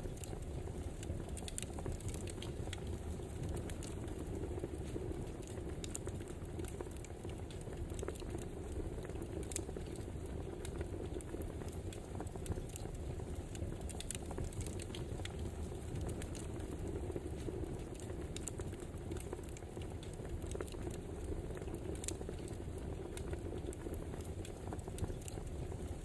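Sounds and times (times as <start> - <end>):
burning firewood crackling: 0.0 - 26.0.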